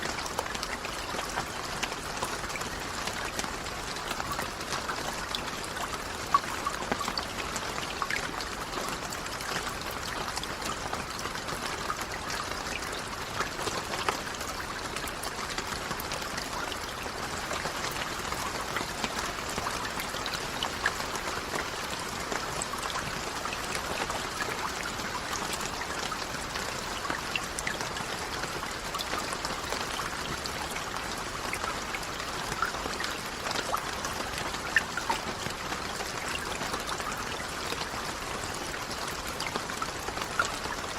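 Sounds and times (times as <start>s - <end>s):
rain patter: 0.0s - 40.9s
running trickling water: 0.0s - 40.9s.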